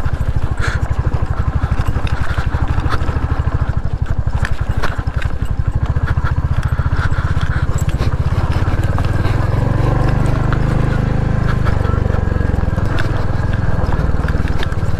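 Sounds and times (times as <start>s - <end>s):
motorcycle engine at low revs: 0.0s - 14.9s.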